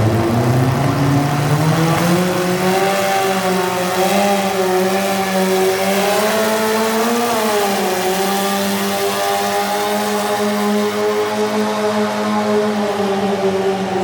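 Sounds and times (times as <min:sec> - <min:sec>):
tractor engine at high revs: 0:00.0 - 0:14.0.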